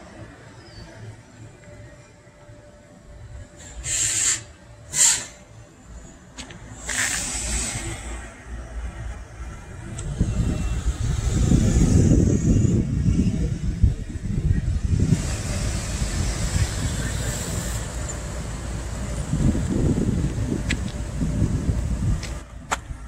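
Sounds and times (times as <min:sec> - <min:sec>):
motor vehicle rumbling: 0:00.0 - 0:23.0.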